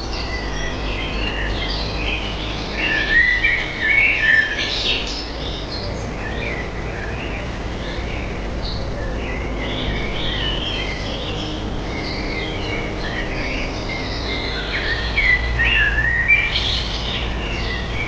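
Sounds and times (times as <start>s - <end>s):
birds chirping and twittering: 0.0s - 18.0s.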